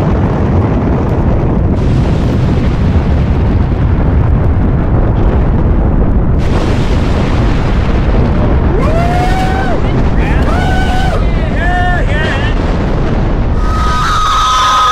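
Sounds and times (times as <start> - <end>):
roaring wind: 0.0 - 14.9.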